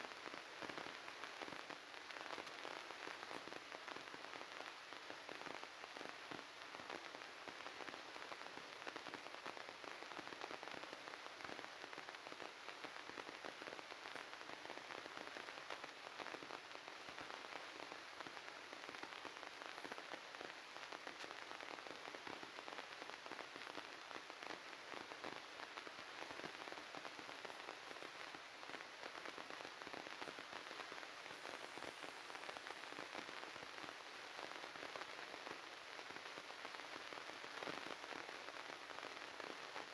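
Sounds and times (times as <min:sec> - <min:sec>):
crackling static hiss: 0:00.0 - 0:39.9.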